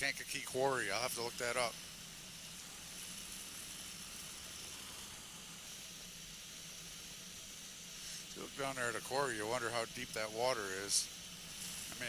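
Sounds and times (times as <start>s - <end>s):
microlight engine hum: 0.0s - 12.0s
steady hiss: 0.0s - 12.0s.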